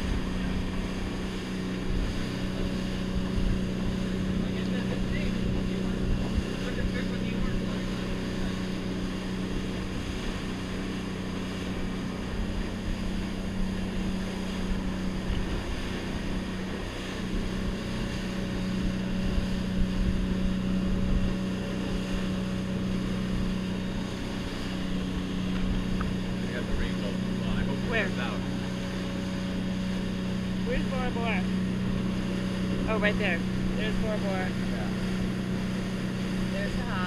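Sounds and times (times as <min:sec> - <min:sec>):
outboard motor droning: 0:00.0 - 0:37.0
rushing water: 0:00.0 - 0:37.0.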